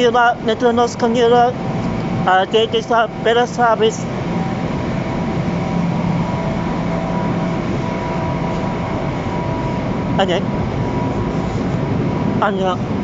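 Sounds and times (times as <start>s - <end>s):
commuter train rumbling: 0.0s - 13.0s
faint high hum: 0.0s - 13.0s.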